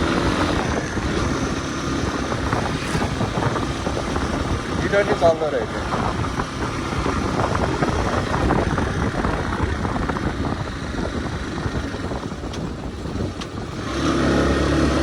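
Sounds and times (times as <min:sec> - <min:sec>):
motorcycle engine running: 0:00.0 - 0:15.0
wind rushing noise: 0:00.0 - 0:15.0.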